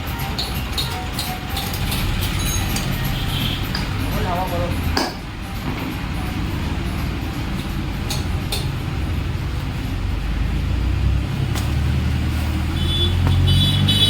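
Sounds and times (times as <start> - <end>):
engine low rumble: 0.5 - 14.0.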